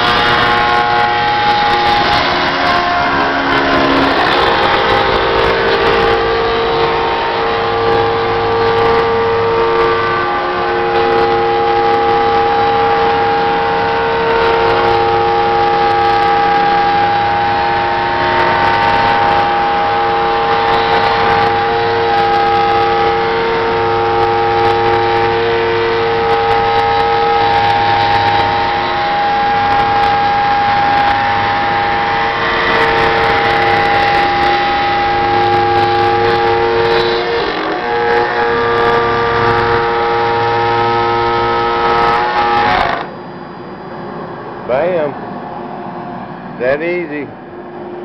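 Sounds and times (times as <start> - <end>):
router machine whine over hiss: 0.0 - 43.2.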